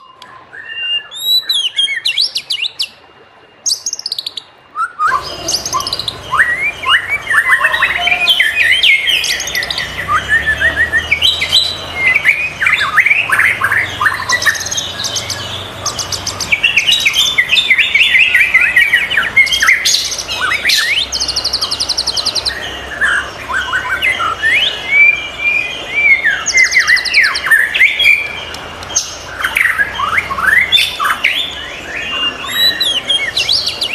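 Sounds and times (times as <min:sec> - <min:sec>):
bird singing whistles and trills: 0:00.0 - 0:03.0, 0:03.6 - 0:33.9.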